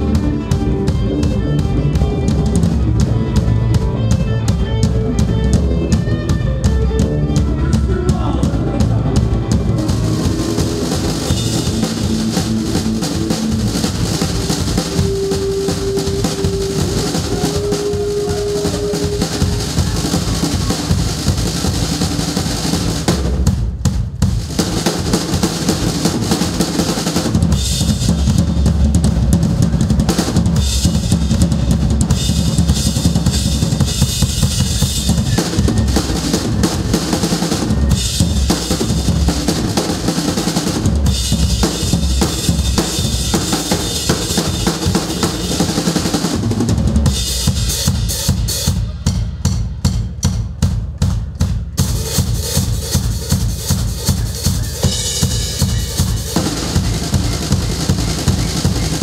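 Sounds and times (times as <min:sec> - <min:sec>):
acoustic drum kit playing: 0:00.0 - 0:59.0.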